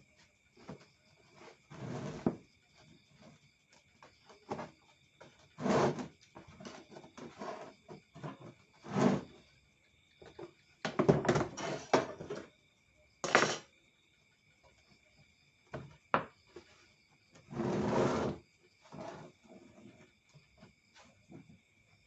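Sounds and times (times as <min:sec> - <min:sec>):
handling clunks and scrapes: 0:00.2 - 0:12.6, 0:15.7 - 0:22.0.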